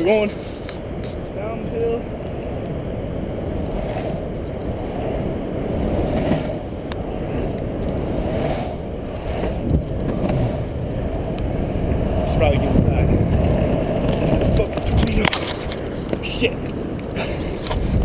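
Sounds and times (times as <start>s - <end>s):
longboard wheels rolling on pavement: 0.0s - 18.0s
wind buffeting microphone: 0.0s - 18.0s.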